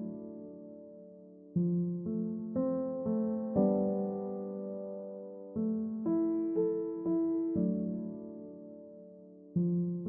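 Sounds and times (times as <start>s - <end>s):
soft electric piano: 0.0s - 10.0s.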